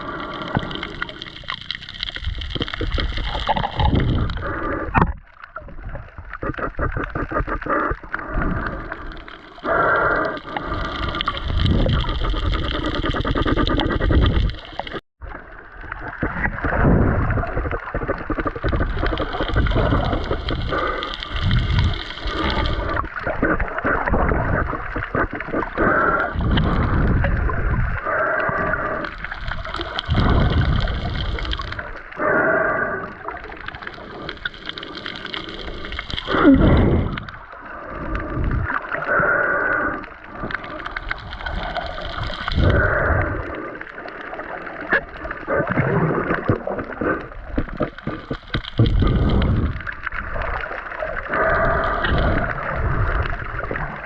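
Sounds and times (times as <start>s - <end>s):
hiss of bubbles: 0.0s - 15.0s, 16.0s - 54.0s
sea water sloshing and bubbling: 0.0s - 54.0s.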